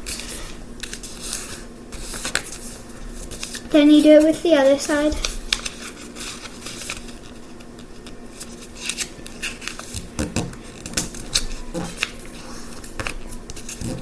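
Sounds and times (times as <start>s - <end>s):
paper folding rustles: 0.0s - 14.0s.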